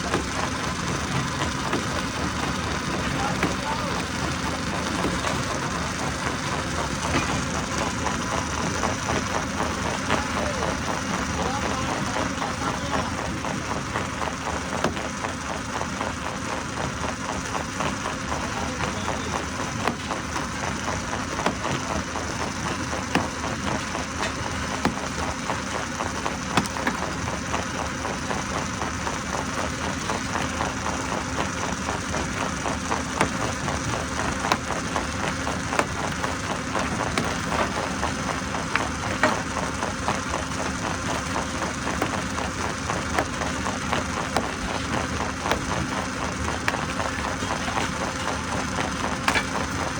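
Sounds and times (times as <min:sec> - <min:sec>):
stone crusher running: 0:00.0 - 0:49.9.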